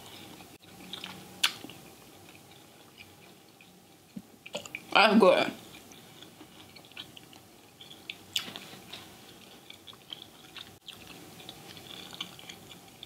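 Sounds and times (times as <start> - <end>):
chewing fried fish: 0.0 - 13.0.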